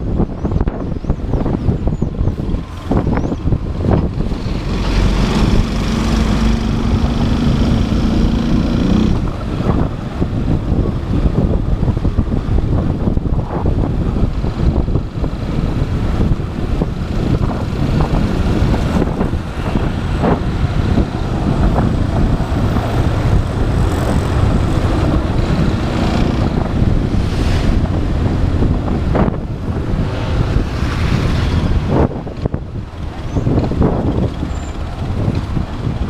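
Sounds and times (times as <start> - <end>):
wind rush on microphone: 0.0 - 36.0.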